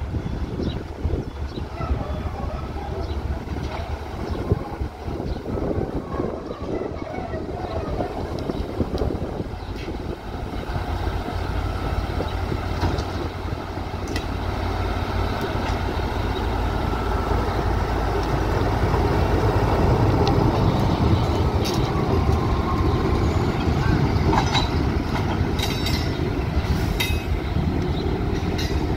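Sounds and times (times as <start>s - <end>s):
diesel locomotive engine running: 0.0s - 28.9s.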